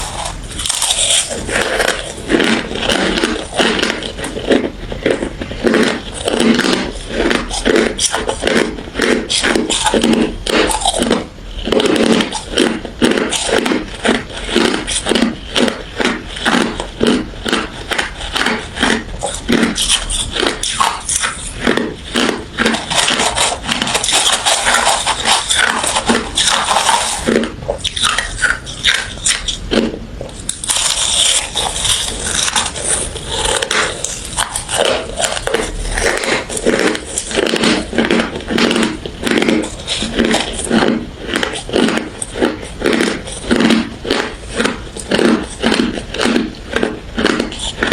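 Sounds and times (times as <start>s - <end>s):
chewing crunchy ice: 0.0s - 47.9s.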